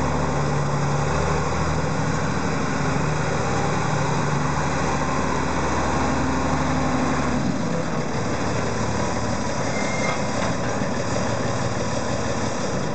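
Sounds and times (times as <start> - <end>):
diesel truck engine running: 0.0 - 12.9.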